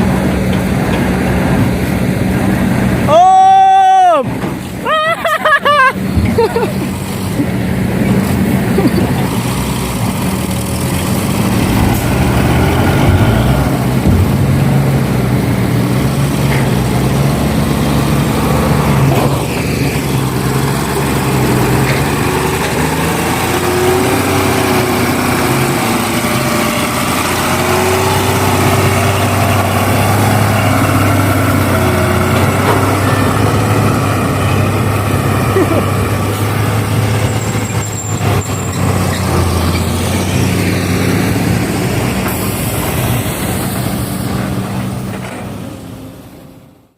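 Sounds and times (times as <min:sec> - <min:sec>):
truck diesel engines idling: 0:00.0 - 0:46.9.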